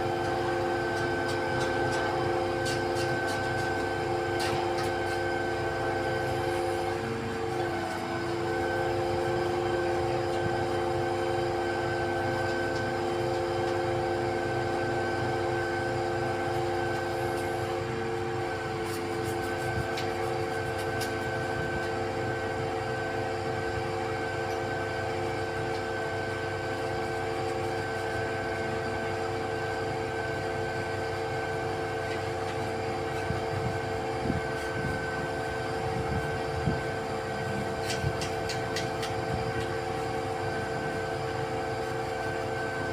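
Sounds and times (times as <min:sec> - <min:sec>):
concrete pump engine rumbling: 0:00.0 - 0:42.9
hydraulic whine: 0:00.0 - 0:42.9.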